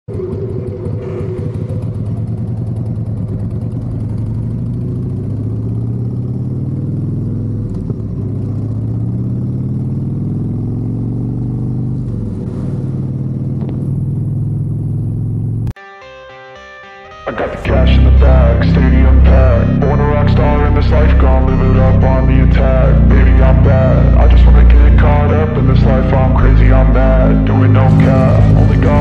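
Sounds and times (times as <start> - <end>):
motorcycle engine accelerating: 0.1 - 15.8, 17.4 - 29.0.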